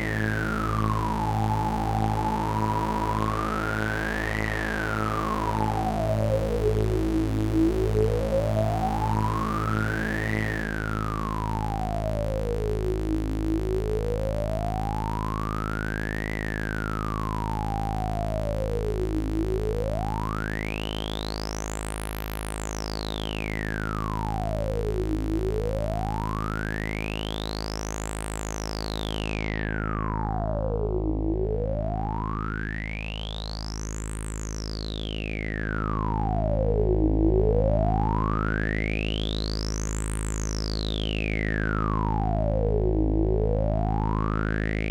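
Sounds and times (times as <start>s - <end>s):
synthesizer low drone: 0.0s - 44.9s.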